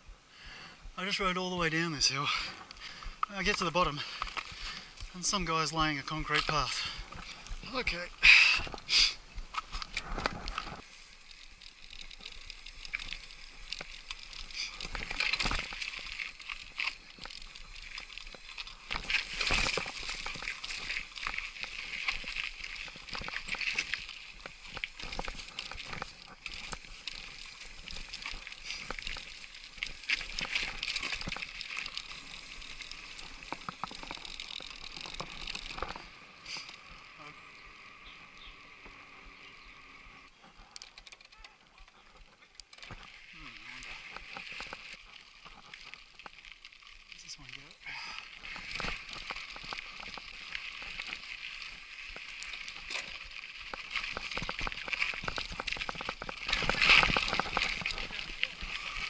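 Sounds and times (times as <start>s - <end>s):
bike rattling down rocky trail: 0.5s - 59.0s
tyres crunching over stones: 1.0s - 37.2s, 40.3s - 59.0s.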